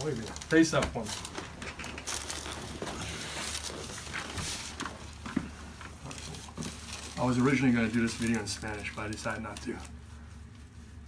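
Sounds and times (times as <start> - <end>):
steady low hum: 0.0 - 11.0
rustling on padded table: 0.2 - 11.0.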